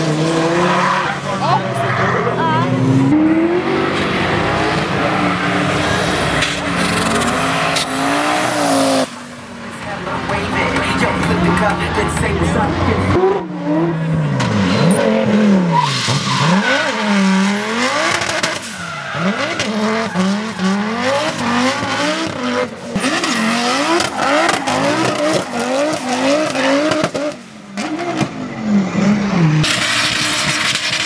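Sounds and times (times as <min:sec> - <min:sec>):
car engines revving hard: 0:00.0 - 0:31.0
tyres squealing and skidding: 0:00.0 - 0:31.0.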